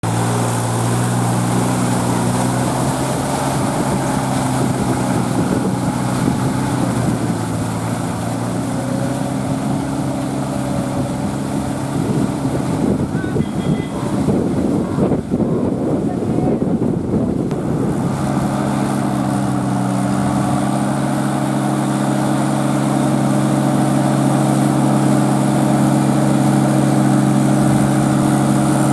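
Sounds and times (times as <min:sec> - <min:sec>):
rough irregular engine noise: 0:00.0 - 0:28.9
tractor diesel engine running: 0:00.0 - 0:28.9.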